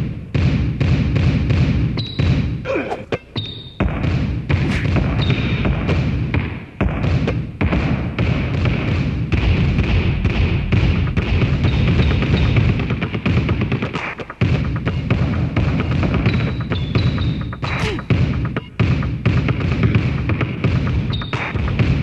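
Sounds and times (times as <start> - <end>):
basketballs bouncing on hard court: 0.3 - 2.6, 3.4 - 22.0.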